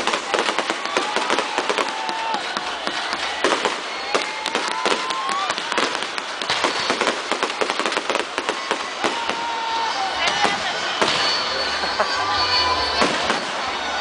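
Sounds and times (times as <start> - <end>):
fireworks cracking and popping: 0.0 - 14.0.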